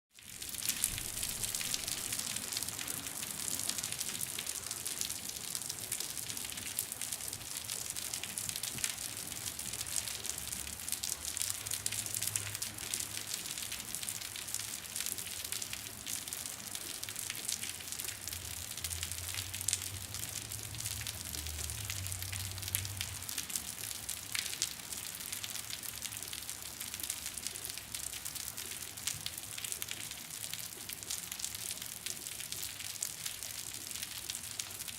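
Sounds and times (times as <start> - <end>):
rain falling on concrete: 0.1 - 34.9.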